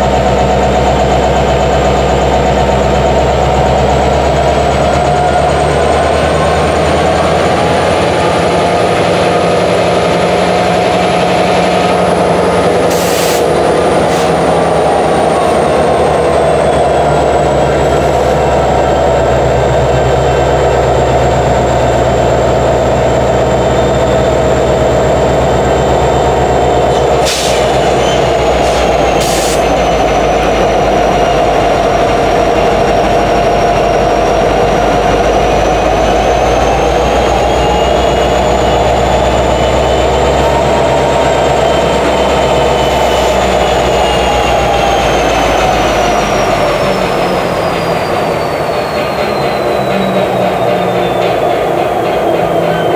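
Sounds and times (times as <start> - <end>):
diesel locomotive engine running: 0.0 - 52.9
high whine: 0.0 - 52.9.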